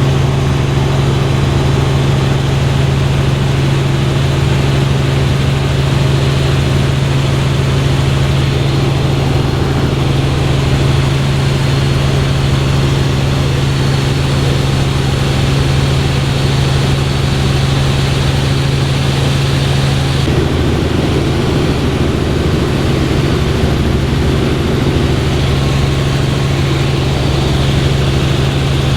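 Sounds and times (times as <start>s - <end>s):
helicopter cabin drone: 0.0s - 28.9s.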